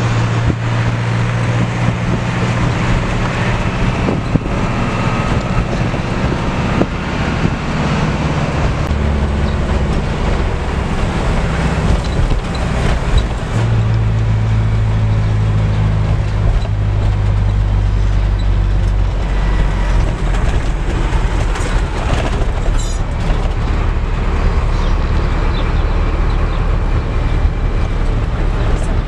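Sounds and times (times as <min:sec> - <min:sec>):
car engine rumble: 0:00.0 - 0:29.0
road noise inside car: 0:00.0 - 0:29.0.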